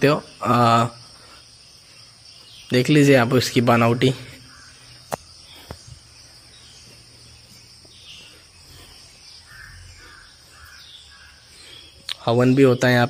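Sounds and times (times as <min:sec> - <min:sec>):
faint bird chirps: 0:00.0 - 0:13.0
high-pitched insect drone: 0:00.0 - 0:13.0.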